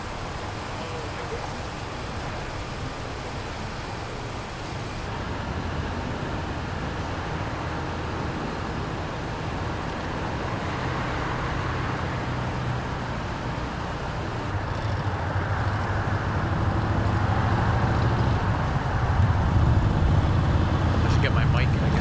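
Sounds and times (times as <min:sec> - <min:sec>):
road traffic engine hum: 0:00.0 - 0:22.0.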